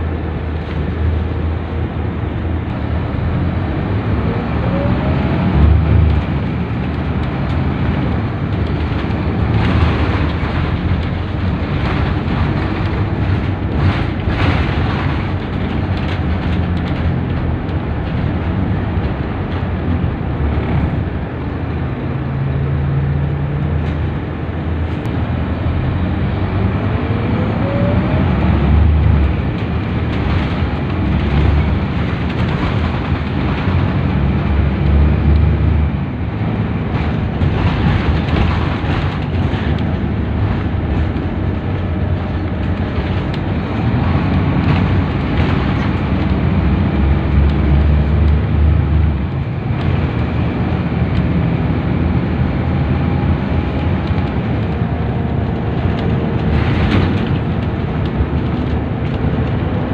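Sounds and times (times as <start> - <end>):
bus diesel engine running: 0.0 - 59.9
road and tyre noise: 0.0 - 59.9.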